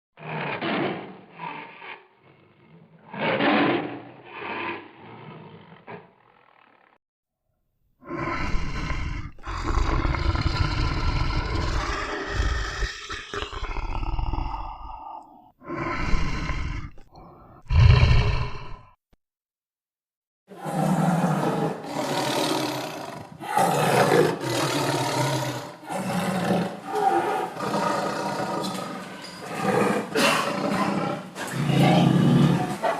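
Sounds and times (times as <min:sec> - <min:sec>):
animal rasping growls: 0:00.2 - 0:07.0, 0:08.0 - 0:19.0, 0:20.5 - 0:32.9
big cat roaring: 0:00.2 - 0:07.0, 0:08.0 - 0:19.0, 0:20.5 - 0:32.9.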